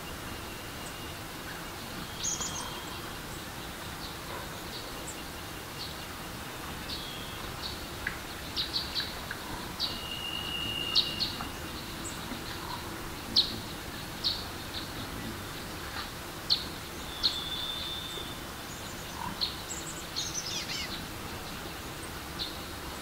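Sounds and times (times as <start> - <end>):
running water hiss: 0.0 - 23.0
birds chirping: 0.1 - 23.0.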